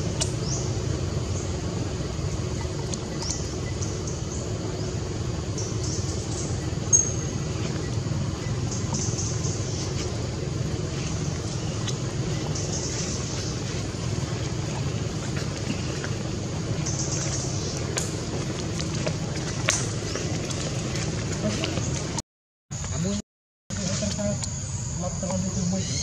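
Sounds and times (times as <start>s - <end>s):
low rumbling background noise: 0.0s - 22.2s.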